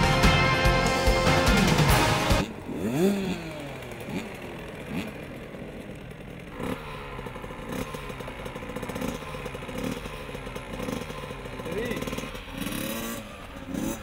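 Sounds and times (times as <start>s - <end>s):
two-stroke motorbikes revving and idling: 0.0s - 14.0s.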